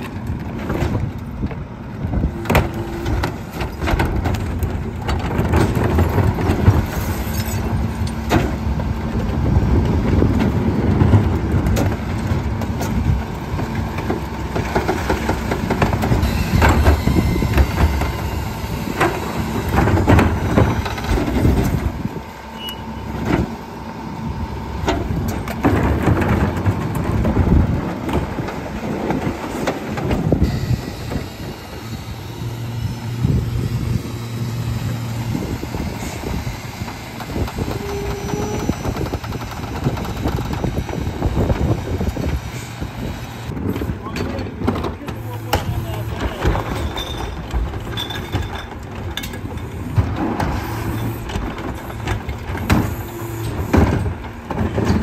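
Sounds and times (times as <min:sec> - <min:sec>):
carts banging against hopper: 0:00.0 - 0:23.7, 0:24.8 - 0:34.0, 0:43.5 - 0:55.0
truck diesel engine and hydraulics: 0:00.0 - 0:55.0.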